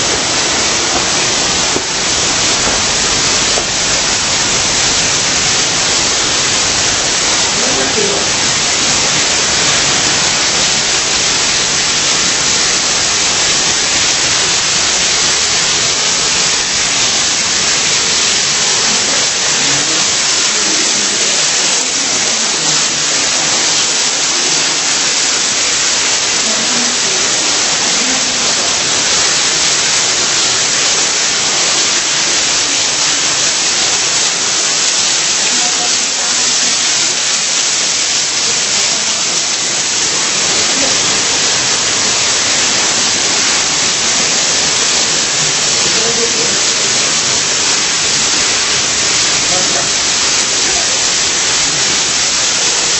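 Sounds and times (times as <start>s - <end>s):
rushing waterfall: 0.0s - 52.9s.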